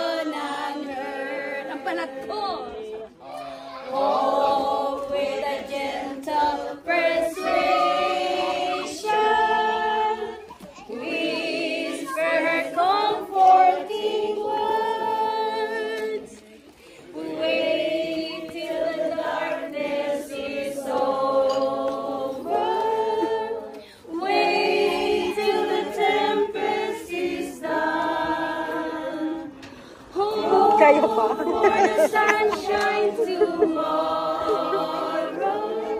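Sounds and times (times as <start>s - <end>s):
group singing in unison: 0.0s - 35.9s.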